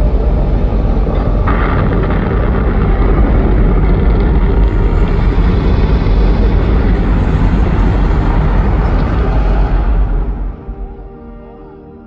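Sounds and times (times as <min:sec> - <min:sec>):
rockets lifting off rumble: 0:00.0 - 0:10.8.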